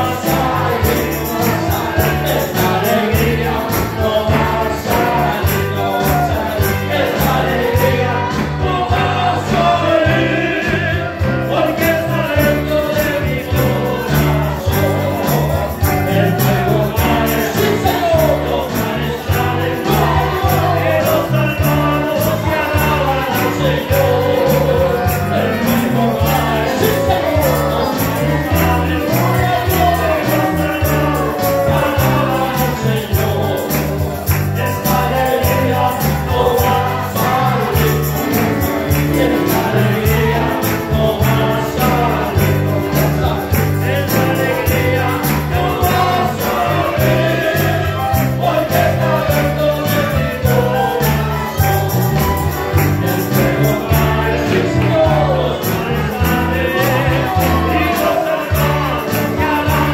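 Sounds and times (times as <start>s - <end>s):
percussion keeping the beat: 0.0s - 59.9s
repeating bass line: 0.0s - 59.9s
voices singing: 0.0s - 59.9s.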